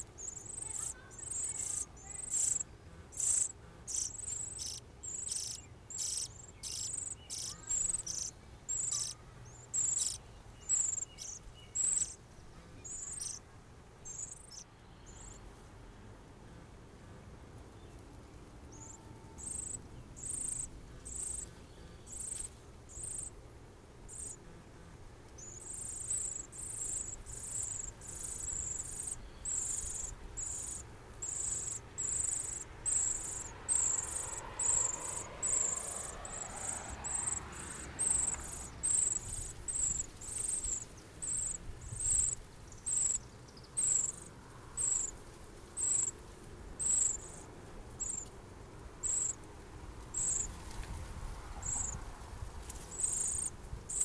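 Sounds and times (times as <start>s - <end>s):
insect chirping: 0.0s - 12.2s, 12.8s - 13.4s, 14.0s - 15.5s, 18.7s - 23.3s, 24.1s - 24.4s, 25.4s - 45.2s, 45.8s - 46.2s, 46.8s - 48.3s, 49.0s - 49.4s, 50.1s - 50.6s, 51.6s - 52.0s, 52.9s - 54.0s.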